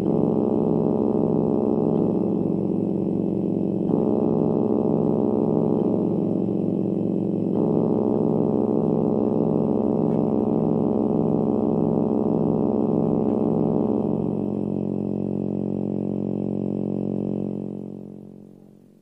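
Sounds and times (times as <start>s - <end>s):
pulsing dark ambient drone: 0.0s - 18.8s.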